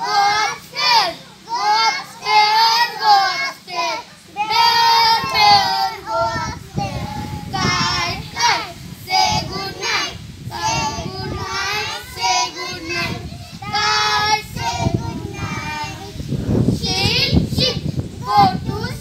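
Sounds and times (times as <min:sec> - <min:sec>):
children singing a rhyme: 0:00.0 - 0:19.0.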